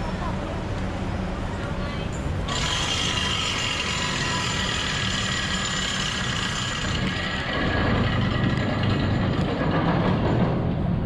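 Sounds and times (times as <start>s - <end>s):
steady high whine: 0.0s - 11.0s
street traffic: 0.0s - 11.0s.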